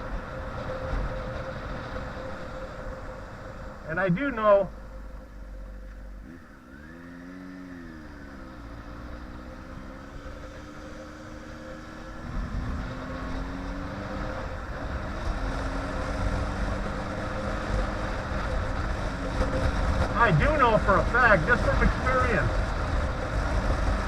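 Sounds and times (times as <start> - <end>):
motorcycle engine revving: 4.7 - 24.0.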